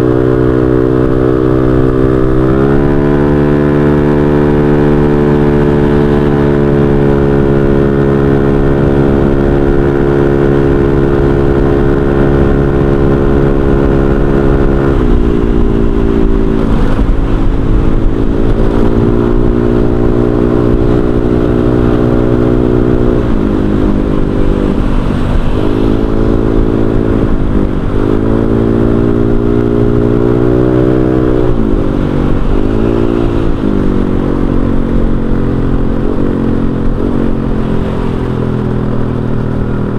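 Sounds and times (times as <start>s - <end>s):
scooter engine: 0.0s - 39.9s.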